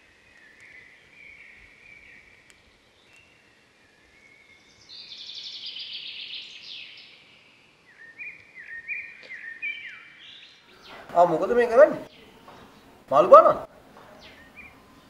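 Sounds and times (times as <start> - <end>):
birds chirping: 0.0 - 15.0
faint outdoor background noise: 0.0 - 15.0.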